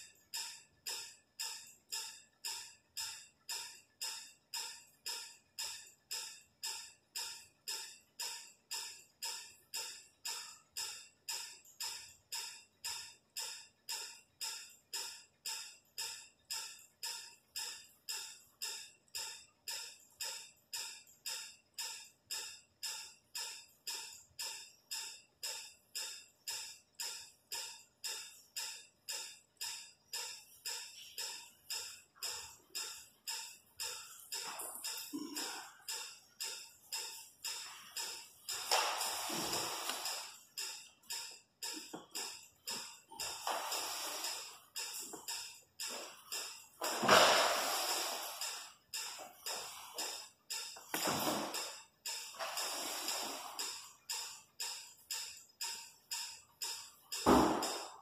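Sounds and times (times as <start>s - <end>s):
steady clock-like ticking: 0.0s - 58.0s.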